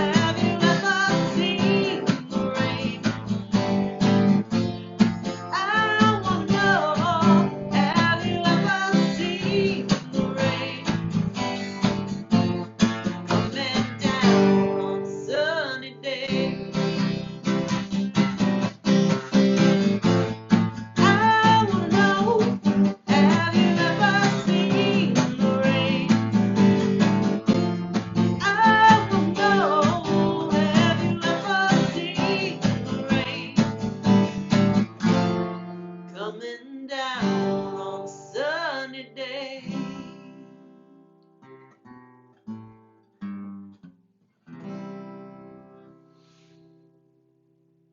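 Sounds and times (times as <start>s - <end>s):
acoustic guitar: 0.0s - 47.9s.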